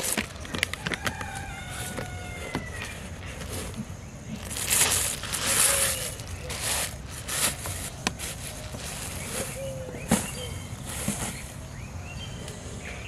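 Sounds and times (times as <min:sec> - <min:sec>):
plastic bag and sack rustling: 0:00.0 - 0:11.7.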